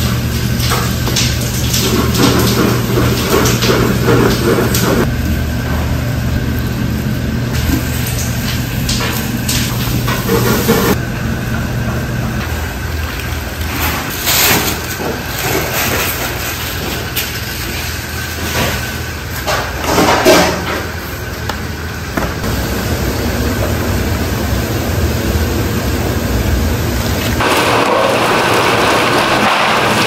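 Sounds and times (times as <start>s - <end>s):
boiling water churning: 0.0s - 30.0s
gas burner rumble: 0.0s - 30.0s.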